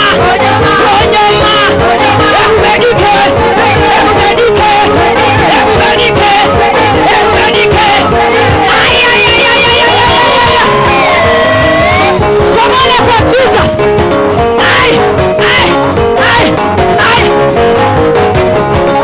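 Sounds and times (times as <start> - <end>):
congregation singing and shouting: 0.0 - 19.0
live worship music: 0.0 - 19.0.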